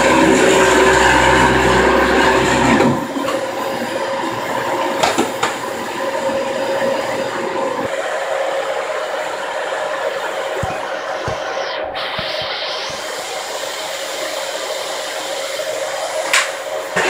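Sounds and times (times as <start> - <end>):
vacuum cleaner whirring: 0.0 - 17.0.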